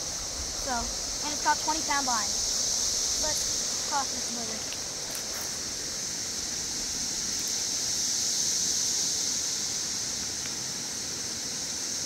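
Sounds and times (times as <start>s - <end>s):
outdoor creek ambience hiss: 0.0s - 12.0s.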